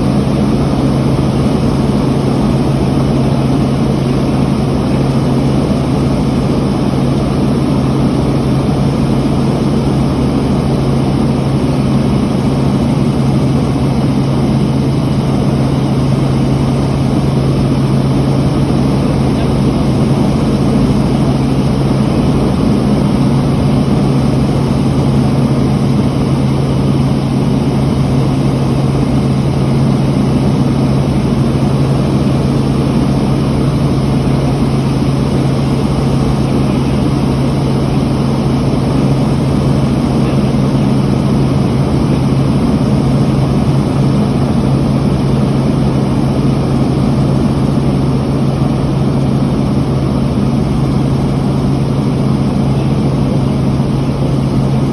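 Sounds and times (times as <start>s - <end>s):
helicopter engine and rotor: 0.0s - 54.9s.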